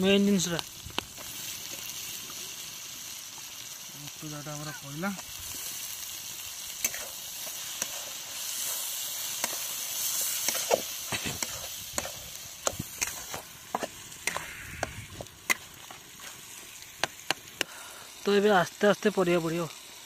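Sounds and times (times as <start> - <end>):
lentils sizzling in hot oil: 0.0 - 20.0.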